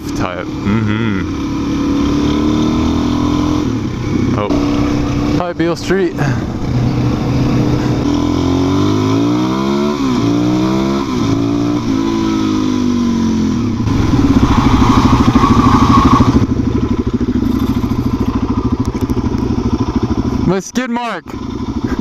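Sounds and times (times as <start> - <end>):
motorcycle engine revving and shifting: 0.0 - 20.4.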